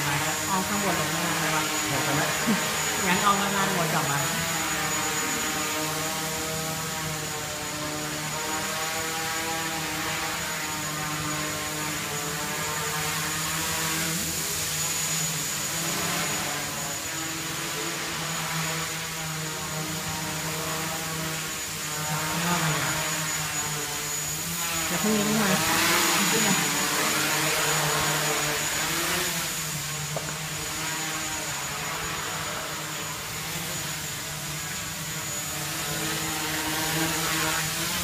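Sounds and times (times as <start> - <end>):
drone propellers buzzing: 0.0 - 38.0.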